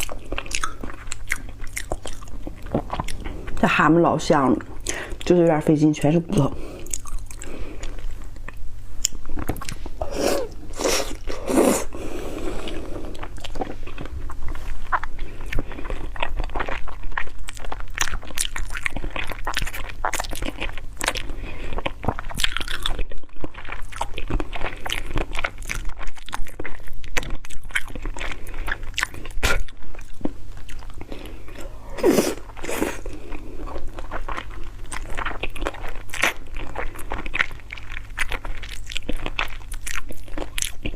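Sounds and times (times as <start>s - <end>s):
chewing and crunching bones: 0.0s - 3.6s, 6.8s - 11.4s, 12.6s - 31.8s, 32.5s - 40.9s.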